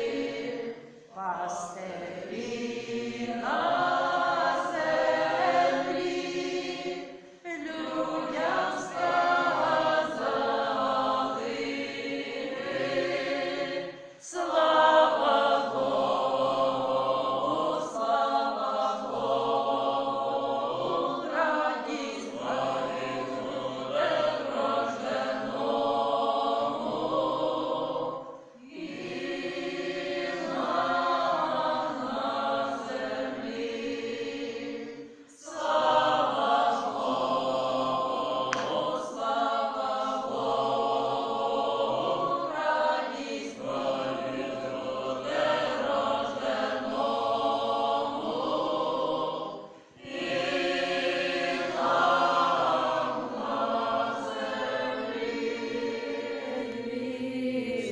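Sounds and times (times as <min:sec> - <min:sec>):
mixed choir singing: 0:00.0 - 0:57.9.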